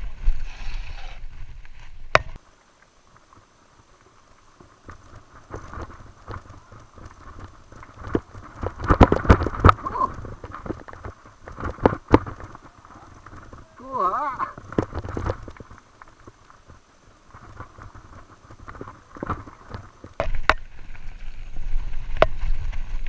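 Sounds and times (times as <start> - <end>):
bike tyres crunching on dirt: 0.0 - 23.0
bike chain and frame rattling: 3.1 - 22.0.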